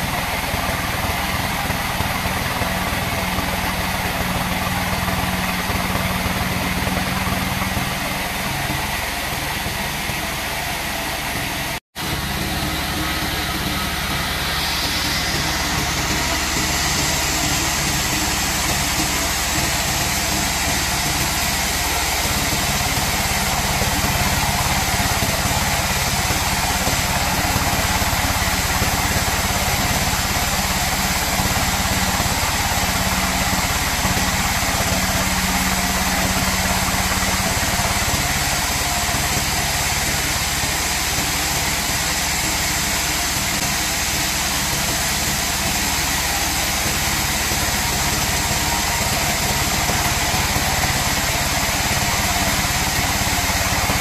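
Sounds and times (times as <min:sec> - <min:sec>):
band saw cutting wood: 0:00.0 - 0:54.0
low hum: 0:00.0 - 0:54.0.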